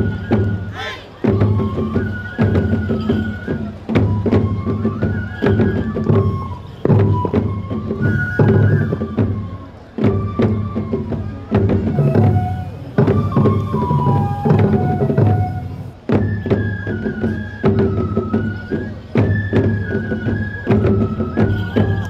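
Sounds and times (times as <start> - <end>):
bamboo flute melody: 0.0 - 22.0
taiko drum strokes: 0.0 - 22.0.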